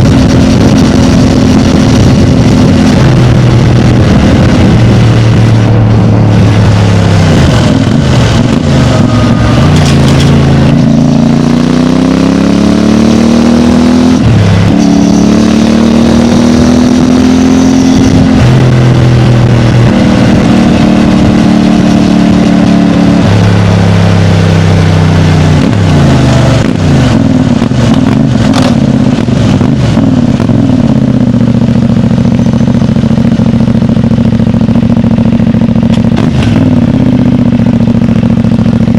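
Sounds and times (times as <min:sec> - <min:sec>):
motorcycle engine shifting gears: 0:00.0 - 0:38.9.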